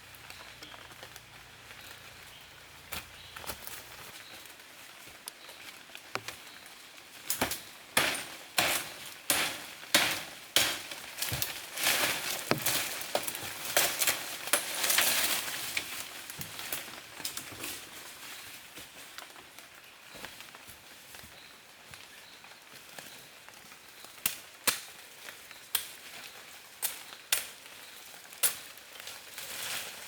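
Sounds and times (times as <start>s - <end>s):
crackling rustle: 0.0s - 30.0s.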